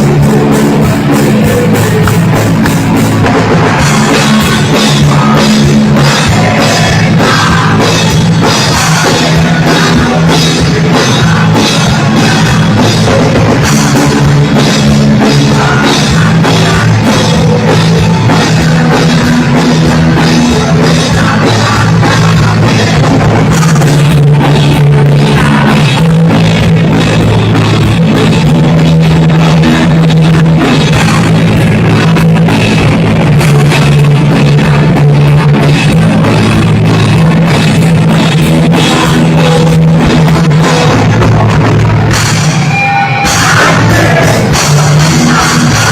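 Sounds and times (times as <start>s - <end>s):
punk rock band playing: 0.0s - 45.9s.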